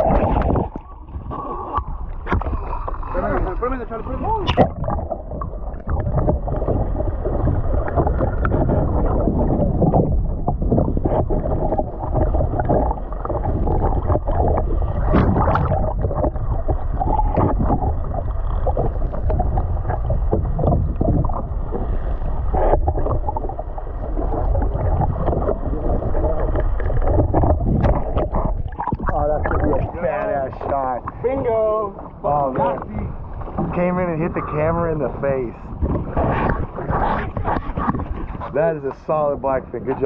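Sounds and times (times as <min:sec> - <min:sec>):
boat engine and water rumble: 0:00.0 - 0:40.0
water splashes: 0:00.0 - 0:40.0
wind on microphone: 0:00.0 - 0:40.0.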